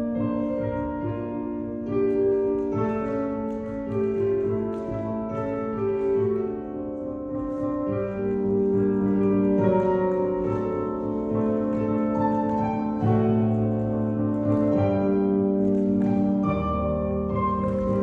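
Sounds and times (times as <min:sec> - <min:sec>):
slow classical music: 0:00.0 - 0:18.0.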